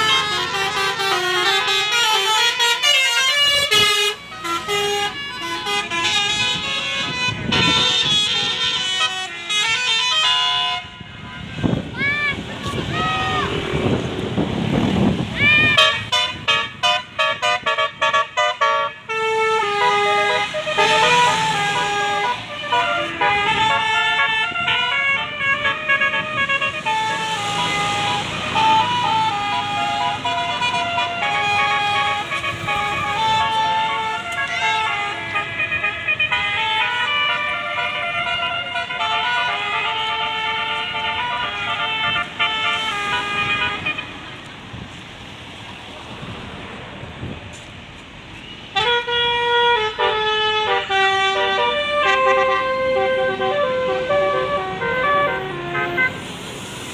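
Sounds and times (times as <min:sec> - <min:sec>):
bus multi-tone horn tune: 0:00.0 - 0:12.5, 0:15.6 - 0:44.5, 0:48.4 - 0:56.9.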